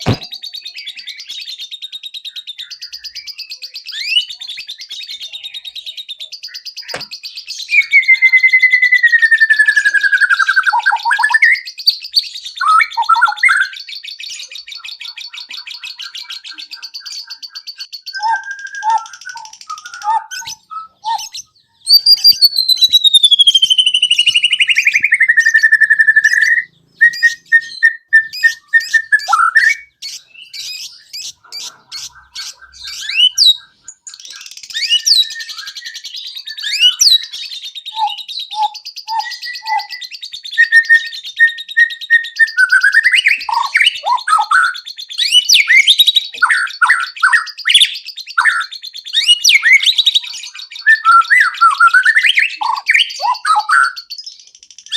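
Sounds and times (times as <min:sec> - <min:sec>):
songbird singing varied song: 0:00.0 - 0:54.9.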